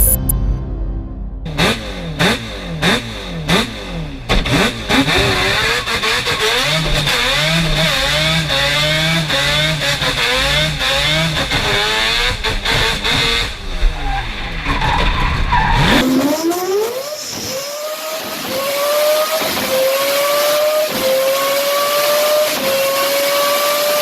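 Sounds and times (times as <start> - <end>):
racing engine revving and accelerating: 1.5 - 14.9, 15.5 - 24.0.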